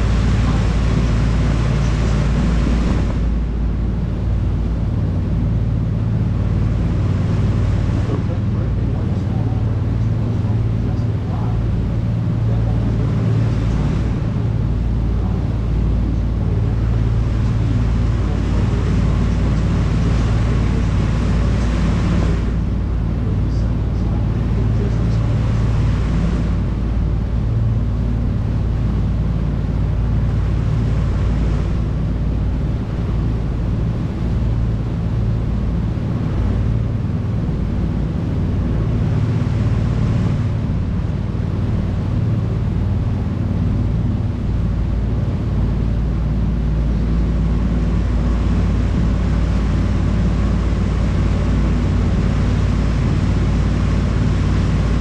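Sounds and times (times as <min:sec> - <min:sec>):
boat engine droning: 0:00.0 - 0:55.0
rushing wake water: 0:00.0 - 0:55.0.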